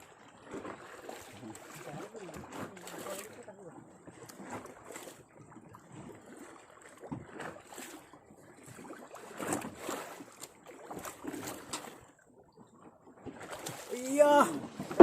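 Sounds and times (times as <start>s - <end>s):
water lapping against boat hull: 0.0s - 15.0s
water splashes: 0.0s - 15.0s.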